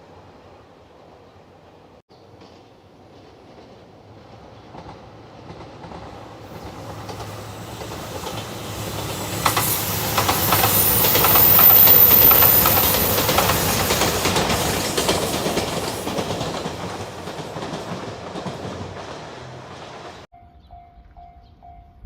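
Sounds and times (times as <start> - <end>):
passenger train passing: 0.0 - 22.0
train wheels clickety-clack: 2.2 - 20.3.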